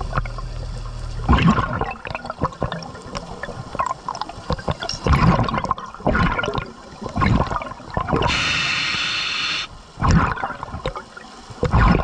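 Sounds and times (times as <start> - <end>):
small clicks and pops: 0.0 - 8.4, 10.0 - 12.0.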